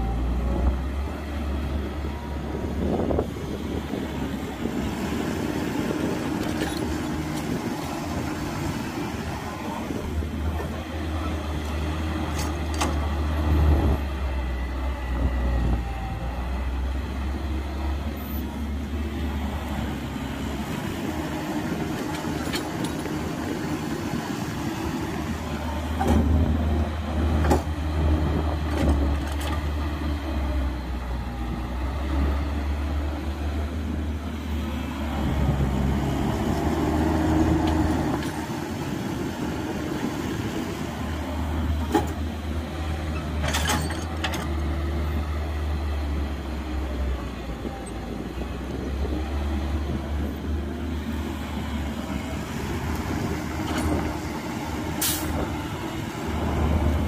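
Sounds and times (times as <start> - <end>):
diesel excavator engine drone: 0.0 - 57.0.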